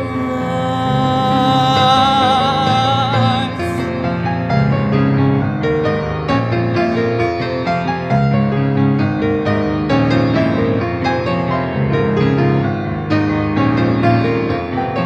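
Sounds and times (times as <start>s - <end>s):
piano playing repeated chords: 0.0s - 15.0s.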